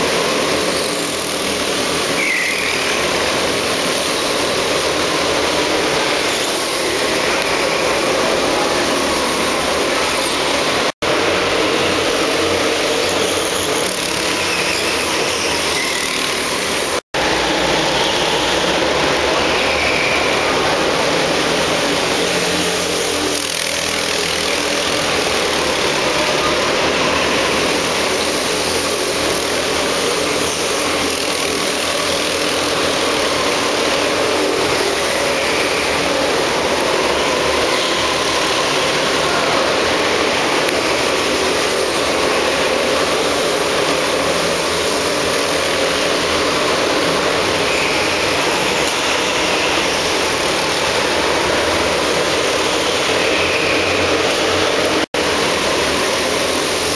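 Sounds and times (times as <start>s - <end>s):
go-kart engines droning: 0.0s - 56.9s.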